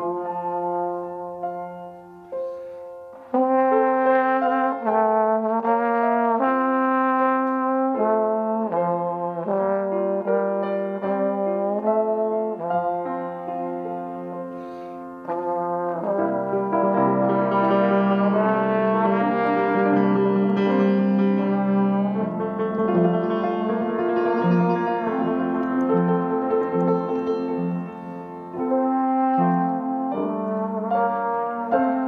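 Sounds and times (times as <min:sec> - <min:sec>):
trombone melody: 0:00.0 - 0:32.0.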